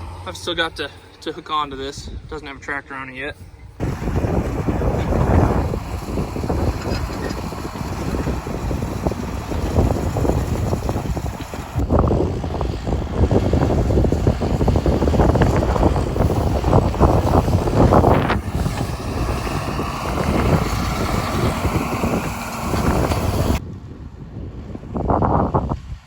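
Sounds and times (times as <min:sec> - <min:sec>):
farm tractor running: 0:00.0 - 0:02.1, 0:03.8 - 0:23.6
wind buffeting microphone: 0:00.0 - 0:26.0.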